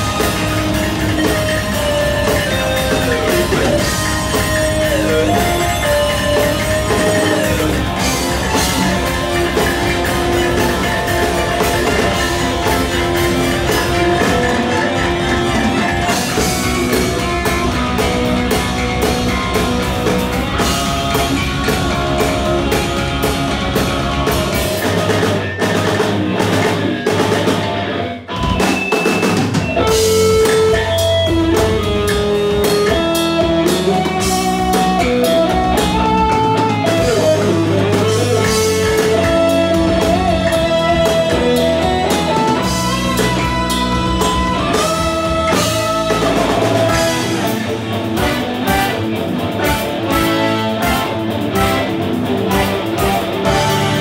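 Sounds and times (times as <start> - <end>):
drum kit: 0.0 - 54.0
electric guitar: 0.0 - 54.0
rock band playing: 0.0 - 54.0.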